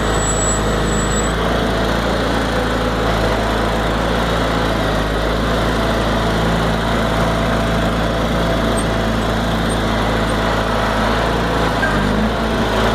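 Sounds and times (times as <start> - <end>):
garden tractor engine running: 0.0 - 12.9.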